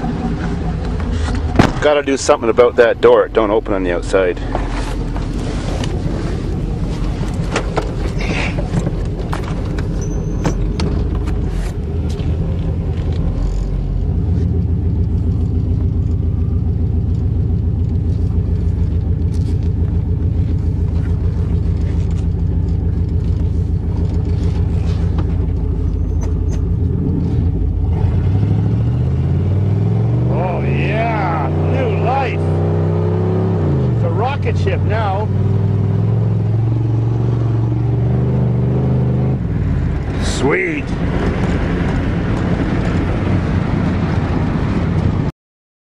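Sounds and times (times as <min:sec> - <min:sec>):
pickup engine while driving: 0:00.0 - 0:45.3.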